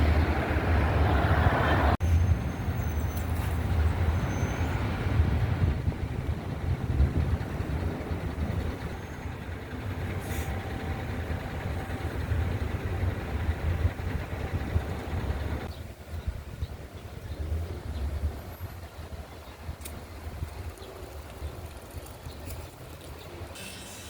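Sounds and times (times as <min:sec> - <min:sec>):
wind gusting on microphone: 0:00.0 - 0:23.5.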